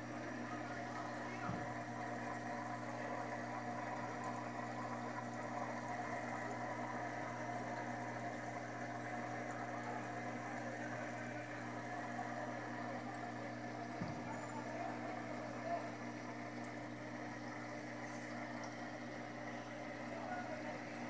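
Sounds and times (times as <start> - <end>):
water bubbling: 0.0 - 20.1
aquarium pump humming: 0.0 - 21.0.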